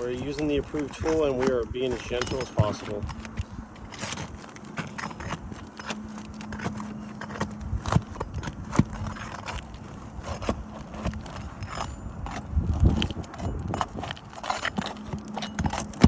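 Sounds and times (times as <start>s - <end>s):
pry tool scraping under shingles: 0.0s - 16.0s.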